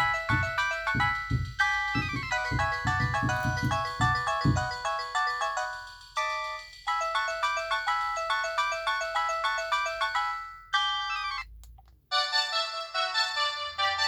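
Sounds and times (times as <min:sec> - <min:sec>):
phone ringtone melodies: 0:00.0 - 0:11.5, 0:12.1 - 0:14.0.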